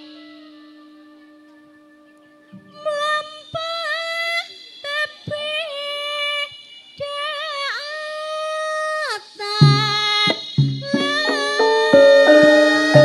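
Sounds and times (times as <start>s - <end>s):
woman singing through pa: 2.5s - 13.0s.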